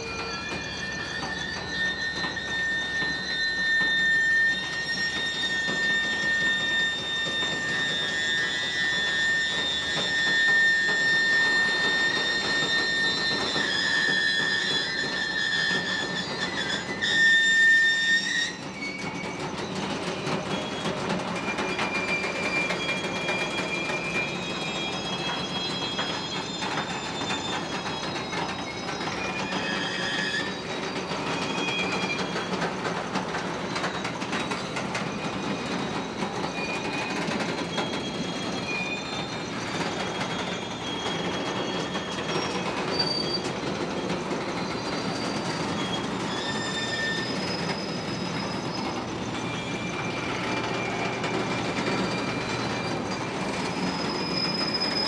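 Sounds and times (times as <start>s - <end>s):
high-pitched wheel squeals: 0.0s - 55.0s
train wheels rumbling on track: 0.0s - 55.0s.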